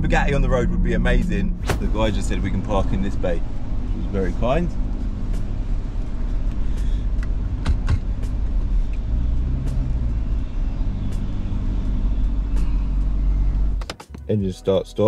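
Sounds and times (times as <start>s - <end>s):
car engine low rumble: 0.0s - 14.4s.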